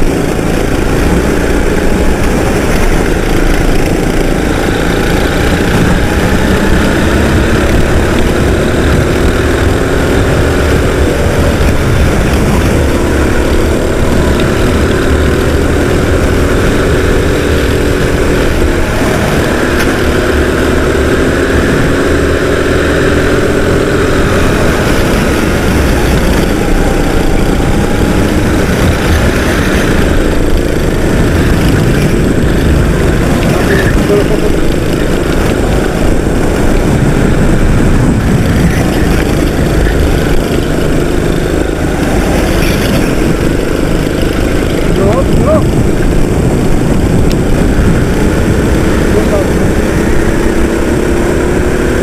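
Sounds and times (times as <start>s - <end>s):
go-kart engines racing: 0.0s - 52.0s.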